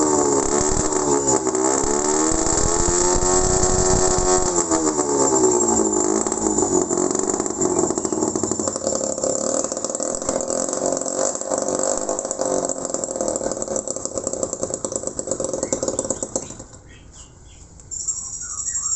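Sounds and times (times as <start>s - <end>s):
small two-stroke engine running: 0.0s - 18.9s.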